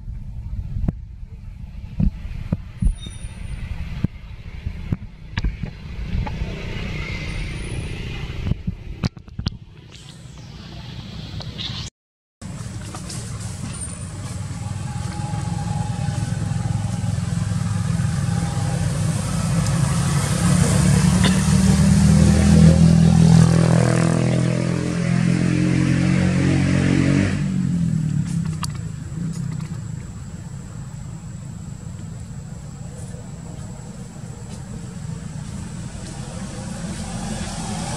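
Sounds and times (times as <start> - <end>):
vehicle engine passing by: 2.6 - 9.0, 10.0 - 37.9.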